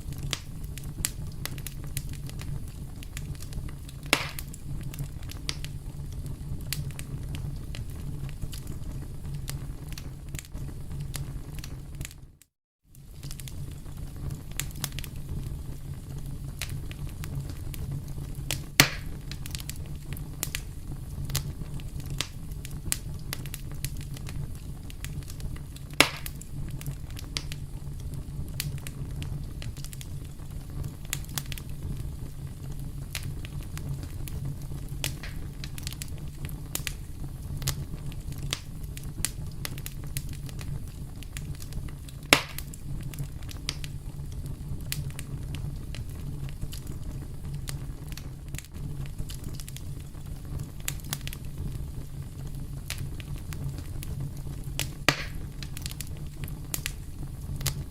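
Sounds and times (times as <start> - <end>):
campfire crackling: 0.0 - 12.2, 12.9 - 57.9
fire pops: 0.0 - 57.9.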